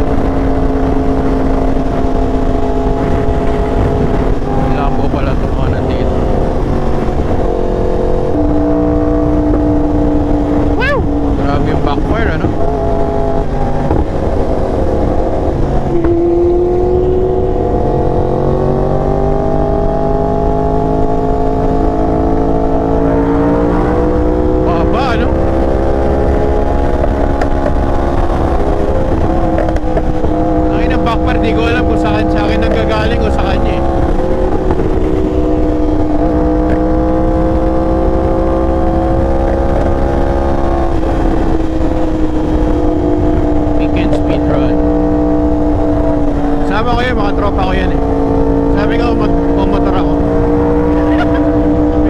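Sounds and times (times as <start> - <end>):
motorcycle engine accelerating: 0.0 - 52.0
wind and road noise: 0.0 - 52.0.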